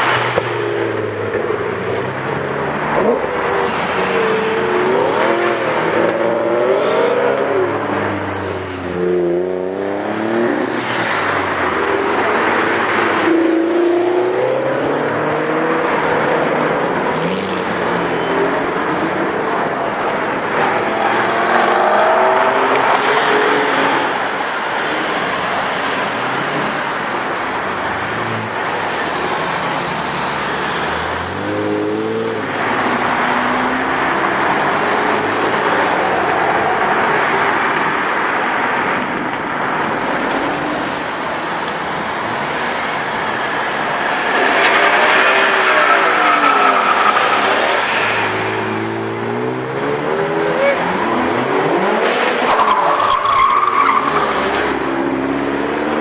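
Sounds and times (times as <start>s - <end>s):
car engines revving: 0.0s - 56.0s
traffic noise: 0.0s - 56.0s.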